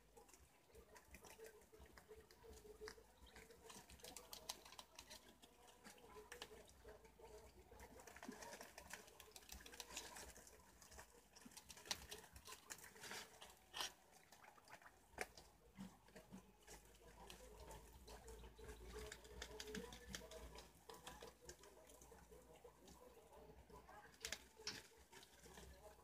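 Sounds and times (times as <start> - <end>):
animals nibbling with crunching clicks: 0.1 - 26.0.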